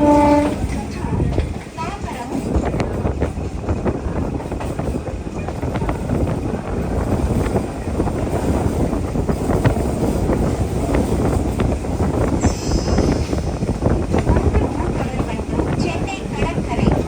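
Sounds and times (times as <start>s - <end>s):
moving train rumbling: 0.0s - 17.0s
train wheels clicking: 0.0s - 17.0s
wind on microphone: 0.0s - 17.0s.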